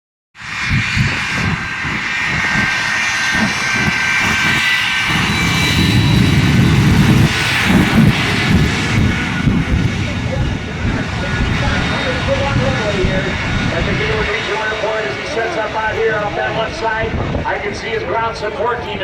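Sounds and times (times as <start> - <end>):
aircraft engine whining: 0.4 - 19.0.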